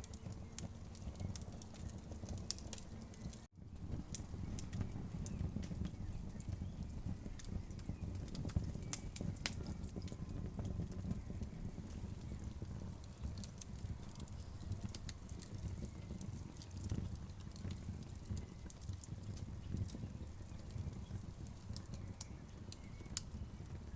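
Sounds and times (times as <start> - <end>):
fire low rumble: 0.0 - 23.9
log fire crackling: 0.0 - 23.9.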